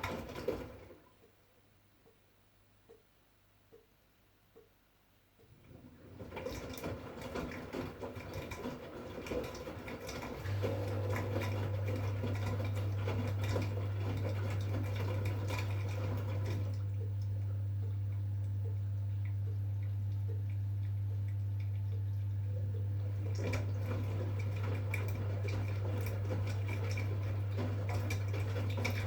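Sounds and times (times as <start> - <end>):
water splashing in washing machine: 0.0 - 1.4, 5.4 - 29.0
washing machine low hum: 0.0 - 2.2, 5.4 - 29.0.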